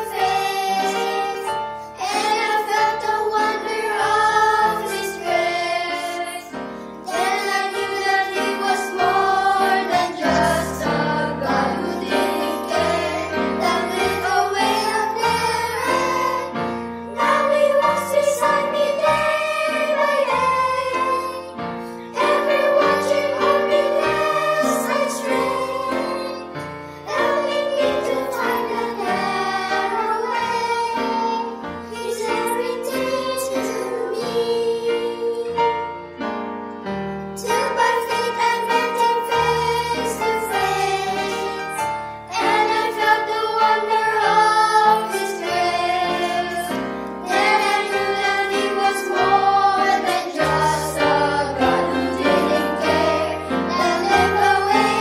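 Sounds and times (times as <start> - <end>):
children singing gospel song: 0.0 - 36.2, 37.4 - 55.0
piano accompaniment: 0.0 - 55.0.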